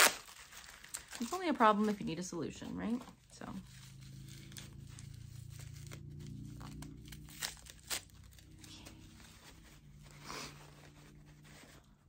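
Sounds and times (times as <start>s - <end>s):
wrapping ripping: 0.0s - 2.1s, 3.6s - 11.9s
wrapping crinkling: 0.0s - 12.0s
faint low hum: 1.0s - 12.0s.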